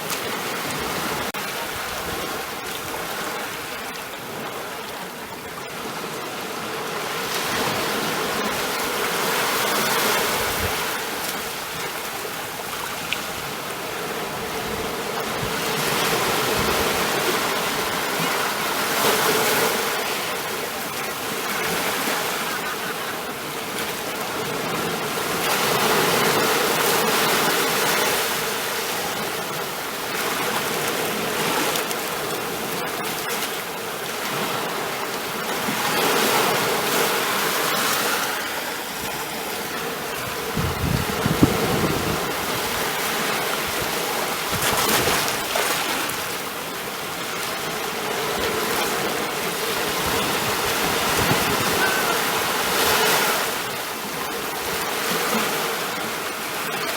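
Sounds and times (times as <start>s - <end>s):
ocean waves breaking: 0.0s - 56.9s.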